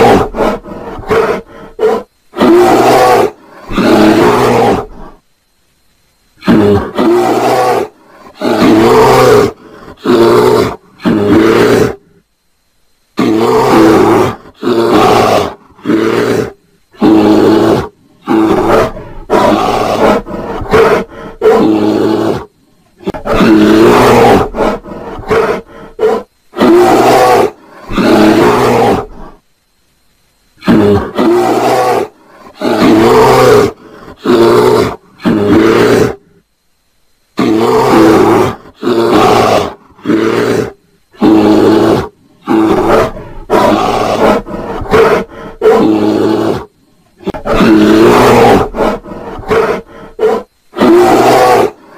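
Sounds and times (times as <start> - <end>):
bear roaring and growling: 0.0 - 5.2, 6.4 - 12.2, 13.2 - 29.4, 30.6 - 36.4, 37.4 - 51.9.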